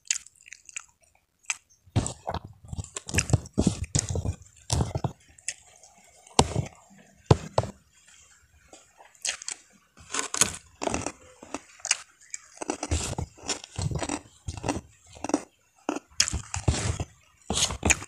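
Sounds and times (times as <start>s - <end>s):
crunchy food chewing: 0.0s - 7.8s, 8.7s - 18.0s.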